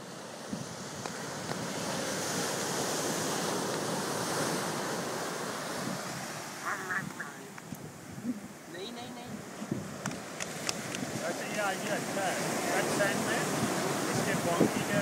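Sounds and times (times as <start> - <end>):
waves breaking on a beach: 0.0 - 15.0
wind on microphone: 0.0 - 15.0.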